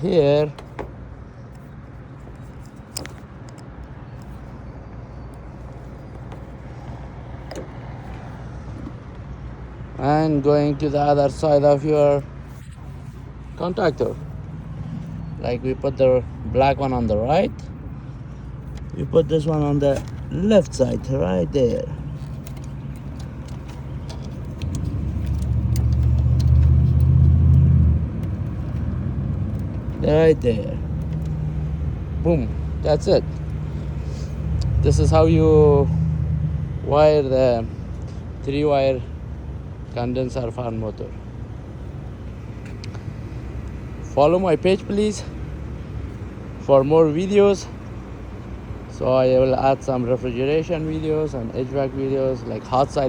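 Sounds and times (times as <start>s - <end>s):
low engine-like rumble: 0.0s - 53.0s
low mechanical hum: 0.0s - 53.0s.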